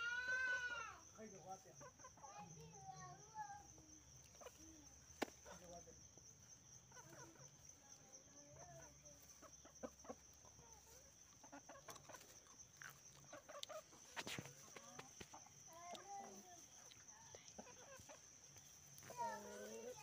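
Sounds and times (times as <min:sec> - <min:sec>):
chickens clucking: 0:01.2 - 0:20.0.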